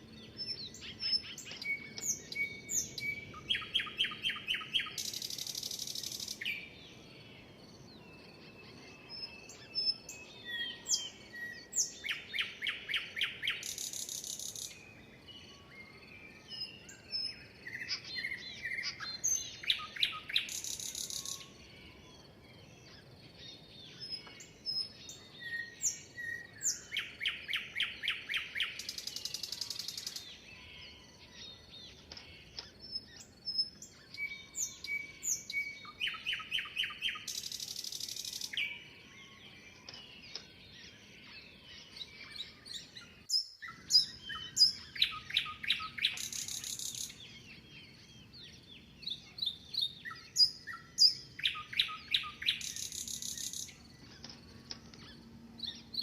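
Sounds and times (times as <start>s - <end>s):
soft chirps of other birds: 0.0s - 56.0s
songbird singing with buzzy trill: 0.0s - 56.0s.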